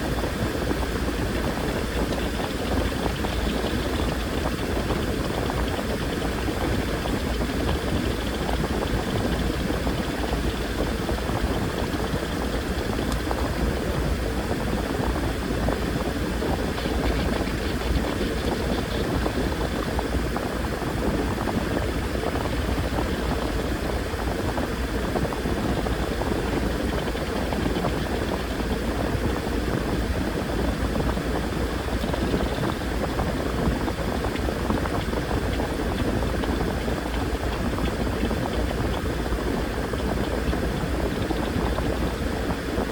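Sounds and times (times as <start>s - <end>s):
washing machine motor hum: 0.0s - 42.9s
water churning in drum: 0.0s - 42.9s.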